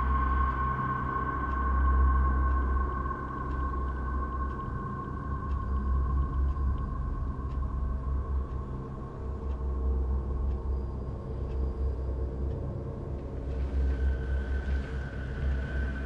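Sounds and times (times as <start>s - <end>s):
faint ticks: 0.0s - 16.0s.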